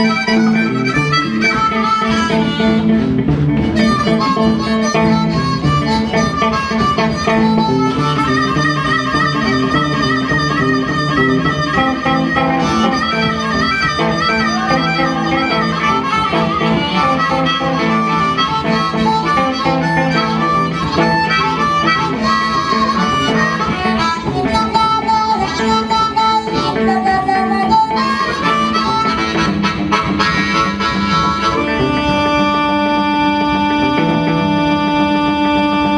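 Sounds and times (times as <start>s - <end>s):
blues harmonica wailing: 0.0s - 35.9s
electric guitar rhythm: 0.0s - 35.9s.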